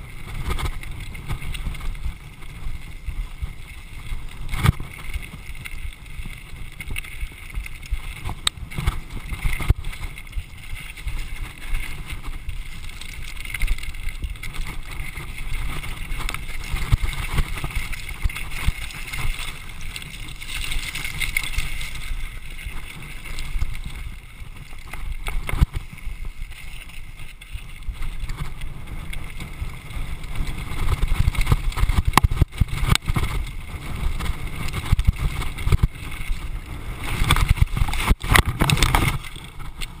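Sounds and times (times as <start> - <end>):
bike rattling over rocks: 0.0 - 40.0
wind buffeting microphone: 0.0 - 40.0.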